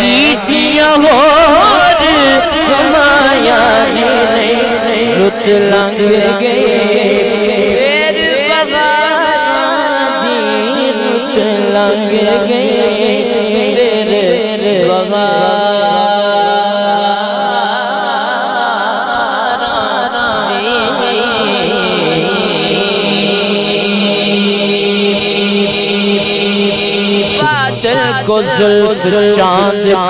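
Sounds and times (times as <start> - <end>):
man singing wavering melody: 0.0 - 30.0.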